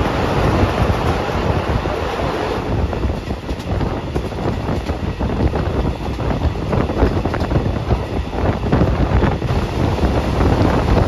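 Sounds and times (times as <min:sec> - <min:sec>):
train carriage rumbling: 0:00.0 - 0:11.0
wind buffeting microphone: 0:00.0 - 0:11.0.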